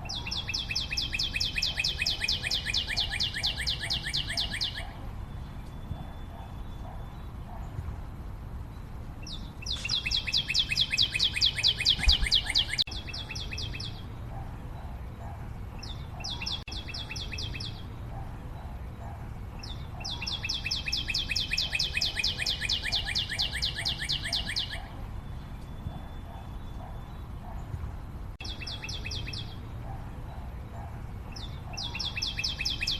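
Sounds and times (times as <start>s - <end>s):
bird singing rapid trills: 0.0s - 7.8s, 8.7s - 27.8s, 28.4s - 32.9s.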